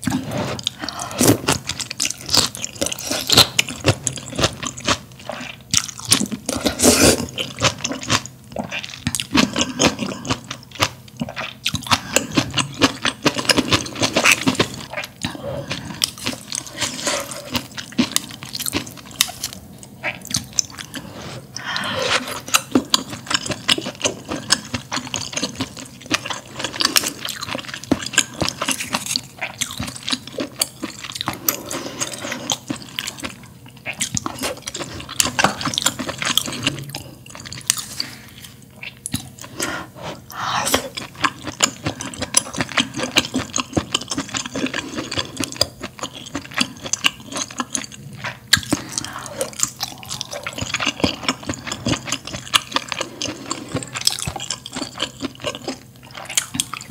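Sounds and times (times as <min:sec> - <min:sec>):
wet chewing with mouth clicks: 0:00.0 - 0:56.9.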